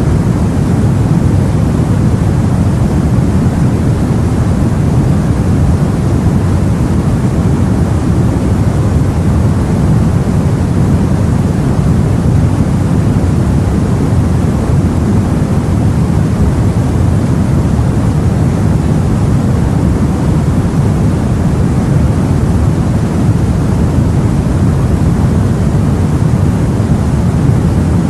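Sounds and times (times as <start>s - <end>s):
low rumbling sea and wind: 0.0s - 28.0s.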